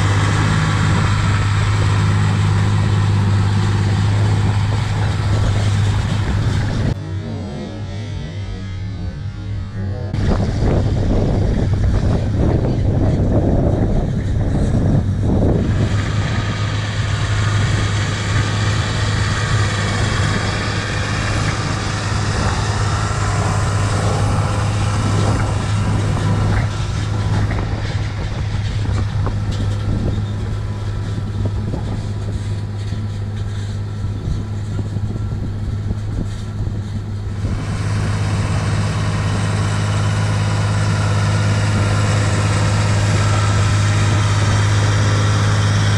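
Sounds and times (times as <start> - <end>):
tractor diesel engine drone: 0.0 - 45.9.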